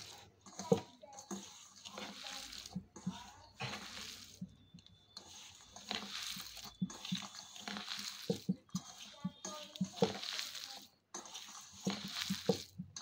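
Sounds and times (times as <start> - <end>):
hand kneading rice squishing: 0.0 - 13.0.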